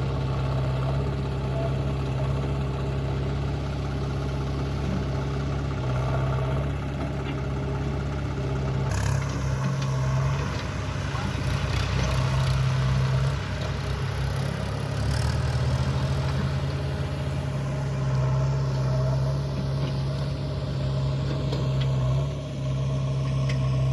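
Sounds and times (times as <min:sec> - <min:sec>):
diesel engine under changing load: 0:00.0 - 0:23.9.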